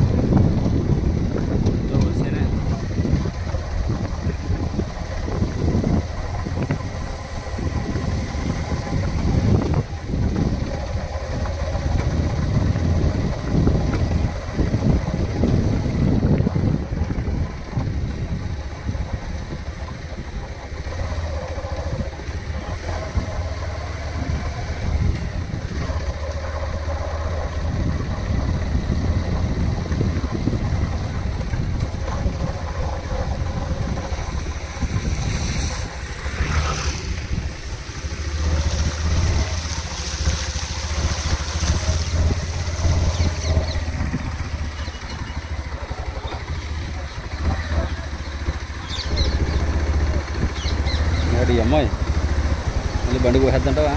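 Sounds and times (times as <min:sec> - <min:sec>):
motorcycle engine running: 0:00.0 - 0:53.9
water sloshing and splashing: 0:02.6 - 0:51.1.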